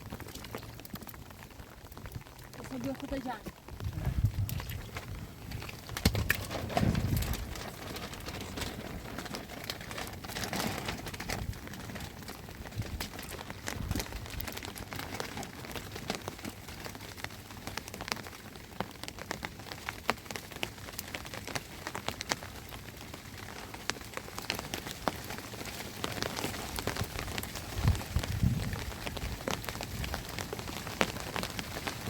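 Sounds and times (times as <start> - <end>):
rain drops on hard surface: 0.0 - 32.0.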